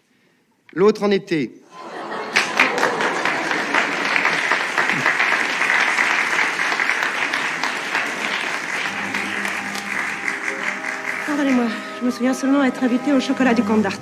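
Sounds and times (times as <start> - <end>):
crowd applauding: 1.8 - 13.7.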